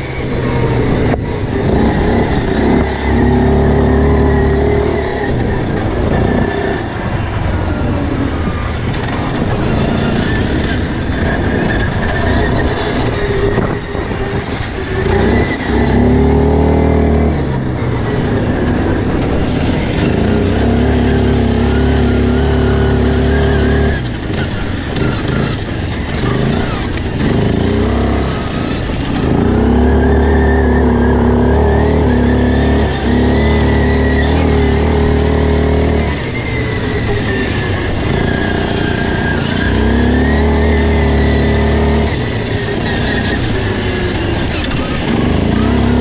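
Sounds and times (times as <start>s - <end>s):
quad bike engine: 0.0s - 46.0s.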